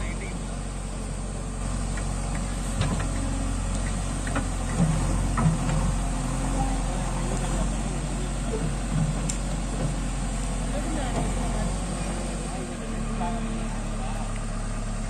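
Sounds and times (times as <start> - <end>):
diesel engine running: 0.0 - 15.0
backhoe digging soil: 0.4 - 13.2.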